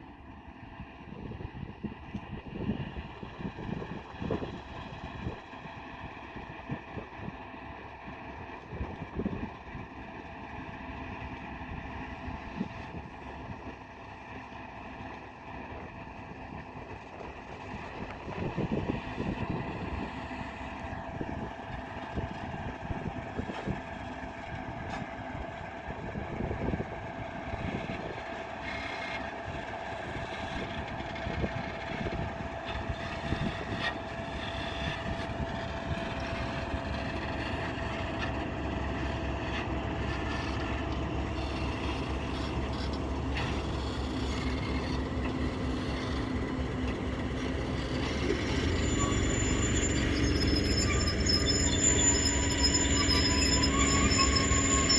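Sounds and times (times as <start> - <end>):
freight train rumble: 0.0 - 54.9.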